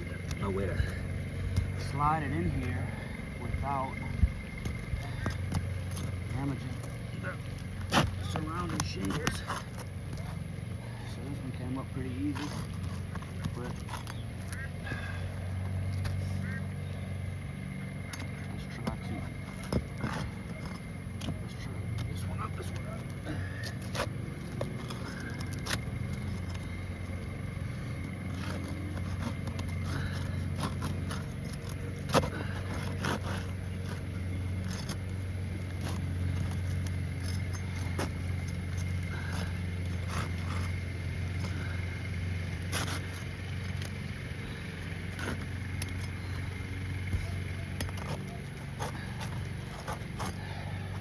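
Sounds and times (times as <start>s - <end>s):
scraping under asphalt shingles: 0.0s - 51.0s
steady low hum: 0.0s - 51.0s.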